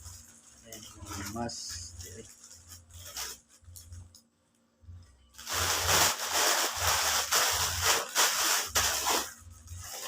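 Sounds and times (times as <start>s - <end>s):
packaging rustling and tearing: 0.0s - 4.0s, 5.4s - 10.0s.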